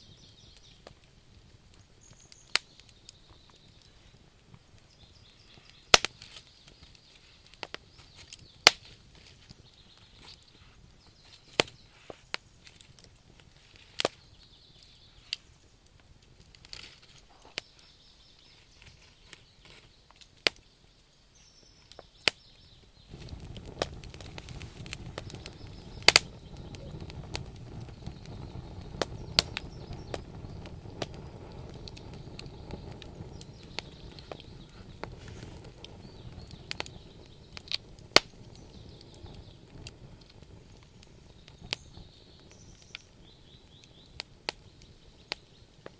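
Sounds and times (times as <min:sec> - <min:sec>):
burning logs popping: 0:00.0 - 0:45.9
campfire crackling: 0:00.0 - 0:45.9.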